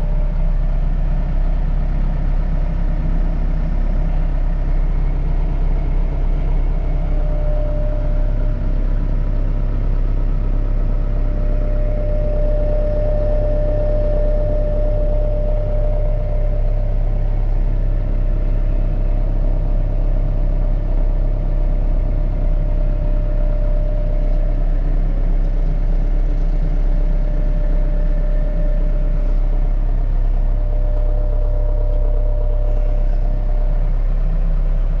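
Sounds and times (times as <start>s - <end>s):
diesel engine rumbling: 0.0s - 35.0s
faint steady whine: 0.0s - 35.0s.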